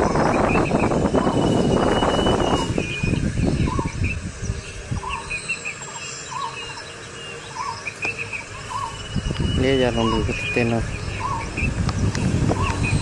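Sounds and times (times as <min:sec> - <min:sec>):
high bird chirps: 0:00.0 - 0:13.0.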